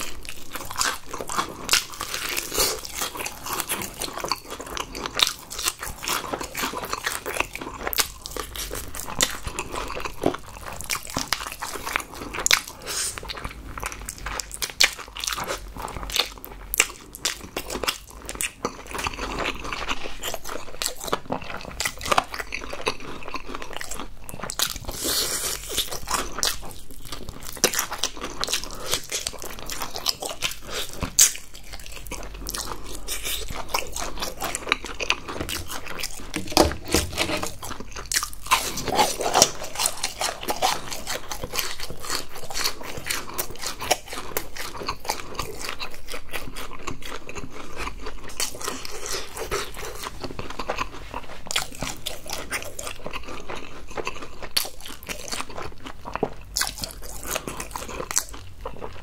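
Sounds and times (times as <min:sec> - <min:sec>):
crunching and chewing food: 0:00.0 - 0:59.0.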